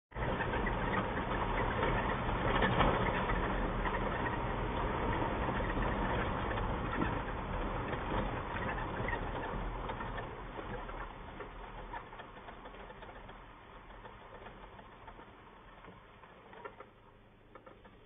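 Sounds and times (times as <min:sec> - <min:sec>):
tyres rumbling on gravel: 0:00.1 - 0:17.1
vehicle engine running low: 0:00.1 - 0:18.0.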